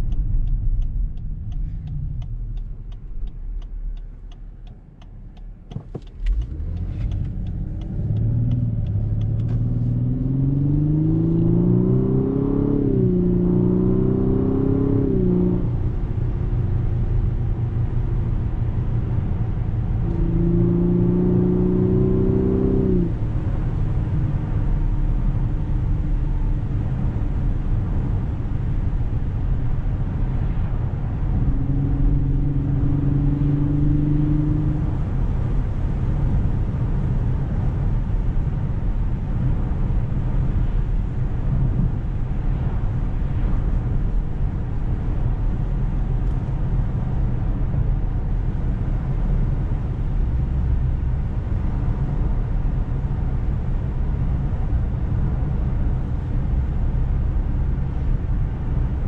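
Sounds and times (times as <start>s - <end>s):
car engine accelerating: 0.0s - 59.0s
low road rumble: 0.0s - 59.0s.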